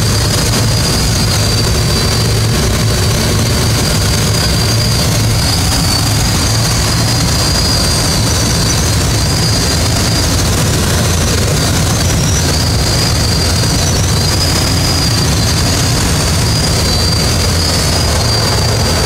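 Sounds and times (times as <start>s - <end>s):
low engine drone: 0.0s - 19.0s
rush of air: 0.0s - 19.0s
thin high whistle: 0.0s - 19.0s.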